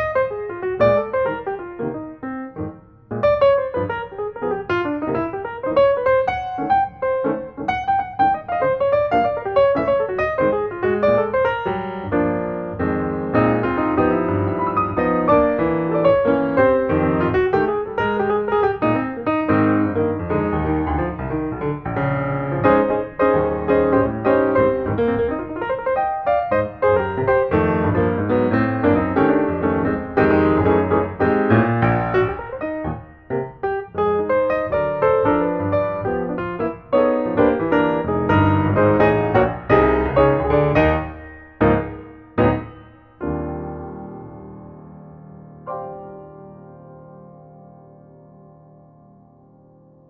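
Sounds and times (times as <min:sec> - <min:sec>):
piano music: 0:00.0 - 0:50.0.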